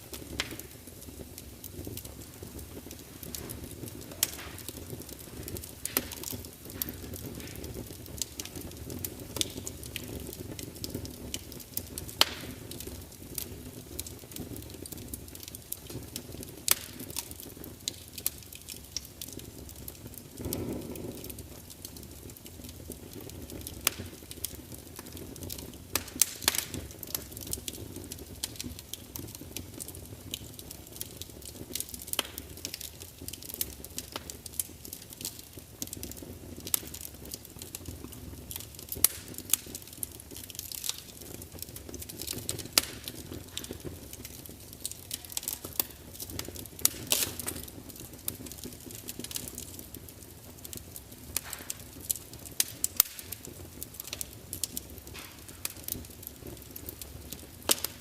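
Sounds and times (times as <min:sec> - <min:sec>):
whoosh of flame: 0:00.0 - 0:50.0
fire crackling and popping: 0:00.0 - 0:58.0
fire flames rumbling: 0:00.0 - 0:58.0.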